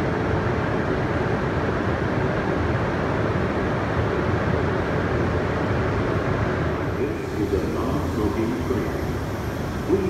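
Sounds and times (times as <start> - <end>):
train mechanical noise with hiss: 0.0 - 10.0.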